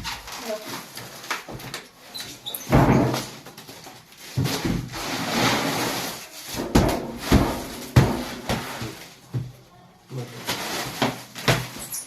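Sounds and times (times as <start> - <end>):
scraping and rustling: 0.0 - 9.3, 10.1 - 12.0.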